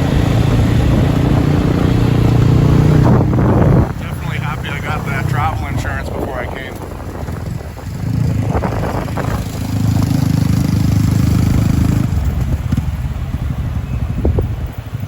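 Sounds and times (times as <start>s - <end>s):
motorbike engine running: 0.0s - 15.0s.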